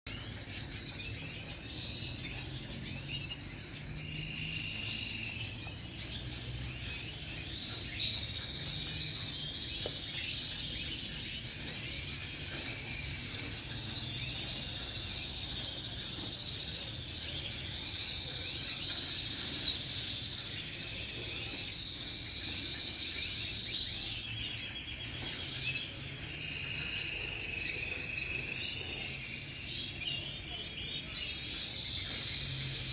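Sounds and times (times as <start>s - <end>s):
canary singing trills: 0.1s - 32.9s.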